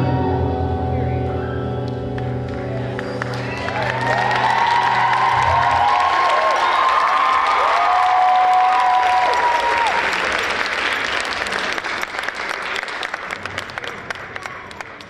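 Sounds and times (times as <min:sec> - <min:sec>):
audience applause: 0:02.2 - 0:15.0.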